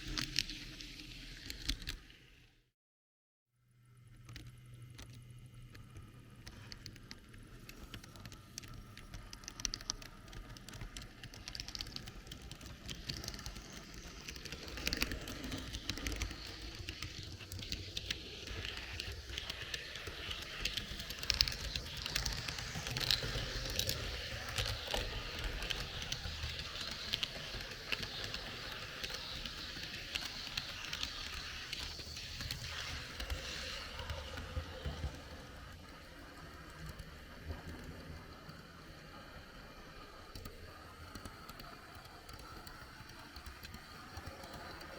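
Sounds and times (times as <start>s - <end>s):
model train wheels clicking on track: 0.0s - 2.0s, 4.3s - 44.9s.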